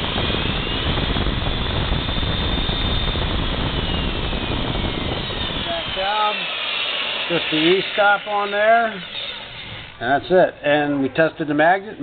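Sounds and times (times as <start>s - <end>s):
drill motor humming and whining: 0.0s - 11.1s.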